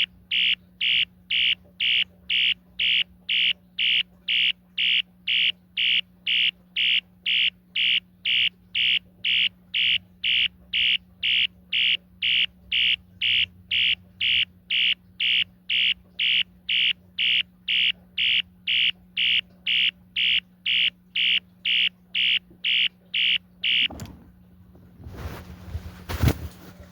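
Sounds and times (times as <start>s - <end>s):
pulsing fire alarm horn: 0.0s - 23.9s.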